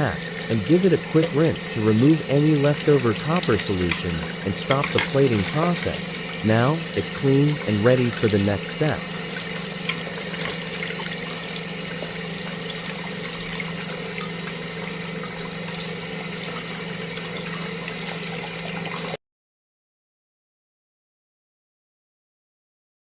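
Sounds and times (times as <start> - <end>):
running water: 0.0 - 19.2.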